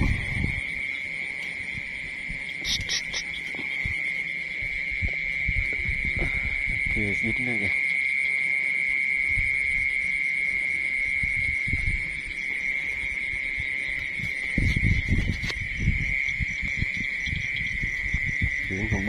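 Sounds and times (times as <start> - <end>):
insects trilling: 0.0 - 19.0
pulsing insect chirps: 0.0 - 19.0.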